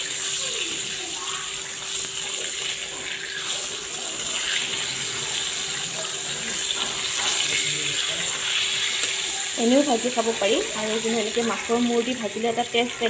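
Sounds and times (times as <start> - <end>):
hot oil sizzling in a pan: 0.0 - 13.0.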